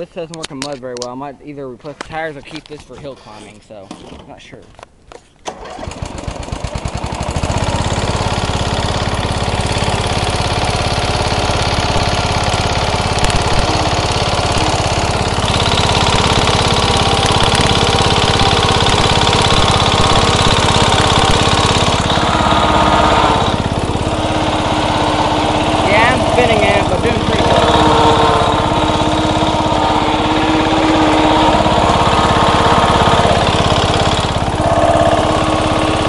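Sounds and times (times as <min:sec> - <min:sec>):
lawnmower engine running: 0:05.4 - 0:36.0
wheels spinning in mud: 0:06.7 - 0:36.0.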